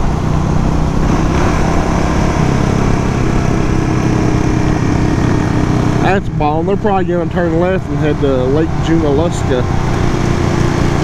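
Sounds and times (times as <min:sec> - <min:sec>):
motorcycle engine cruising: 0:00.0 - 0:11.0
road rush: 0:00.0 - 0:11.0
wind: 0:00.0 - 0:11.0.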